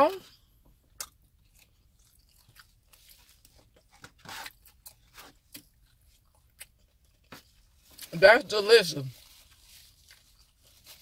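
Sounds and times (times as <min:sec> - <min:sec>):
person chewing crunchy food: 0:00.6 - 0:08.1, 0:09.2 - 0:11.0.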